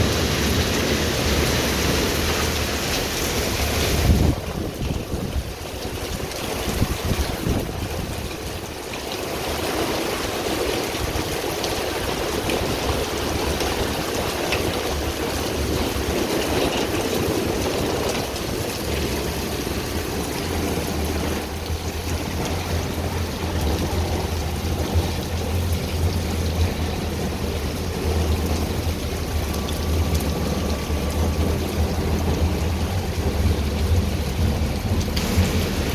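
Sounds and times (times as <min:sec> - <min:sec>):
low steady rumble: 0:00.0 - 0:35.9
rain falling: 0:00.0 - 0:35.9
water running and splashing: 0:00.0 - 0:35.9.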